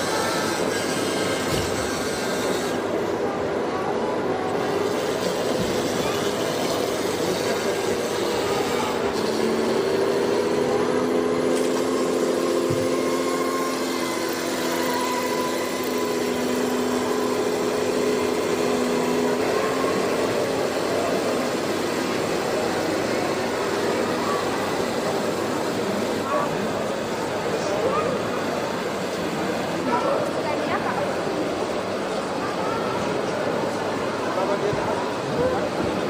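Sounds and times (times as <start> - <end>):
toy electric motor and gears: 0.0 - 31.7.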